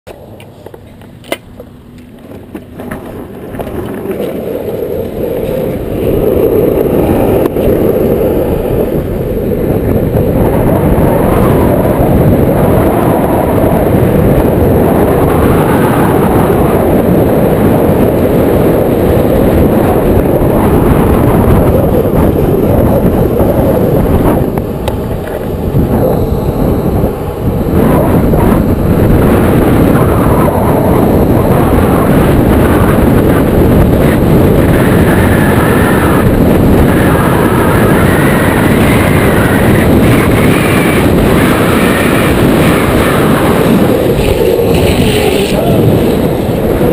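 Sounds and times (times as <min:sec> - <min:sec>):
skateboard wheels rolling on asphalt: 0:00.1 - 0:46.9.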